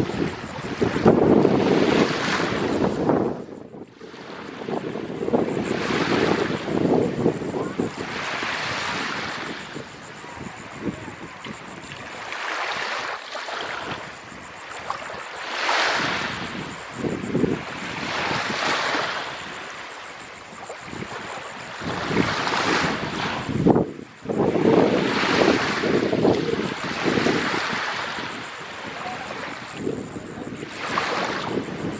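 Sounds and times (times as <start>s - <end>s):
small waves washing in: 0.0s - 31.9s
wind buffeting microphone: 0.0s - 31.9s.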